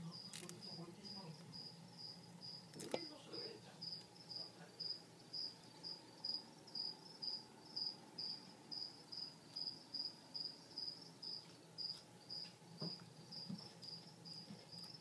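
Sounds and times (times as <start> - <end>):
cricket chirping: 0.0 - 15.0
faint low hum: 0.0 - 15.0.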